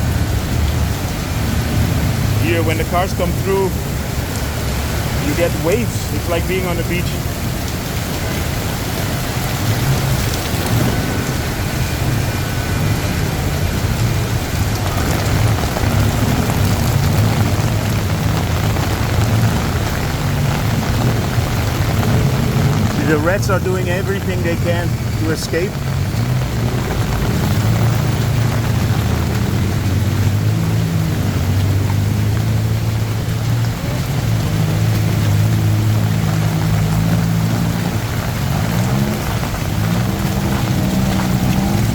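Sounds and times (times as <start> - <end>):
floodwater splashing: 0.0 - 41.9
heavy rain pouring: 0.0 - 41.9
low traffic rumble: 0.0 - 41.9.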